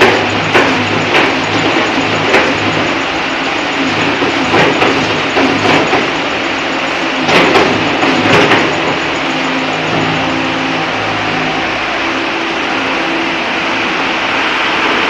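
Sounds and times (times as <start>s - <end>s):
loud clanks: 0.0s - 12.2s
diesel engine running: 0.0s - 15.0s.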